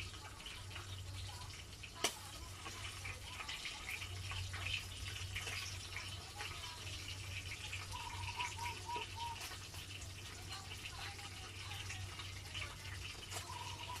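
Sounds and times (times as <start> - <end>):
fish frying in hot oil: 0.0 - 14.0.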